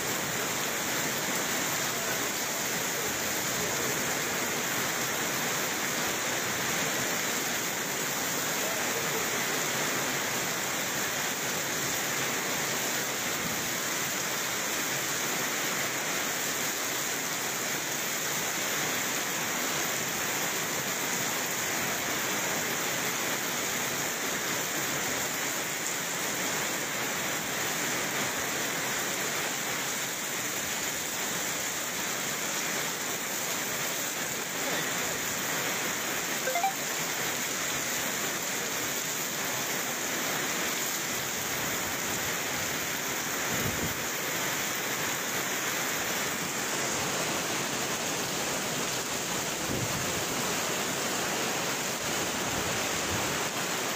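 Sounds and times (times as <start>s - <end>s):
heavy rain on street and cars: 0.0s - 53.9s.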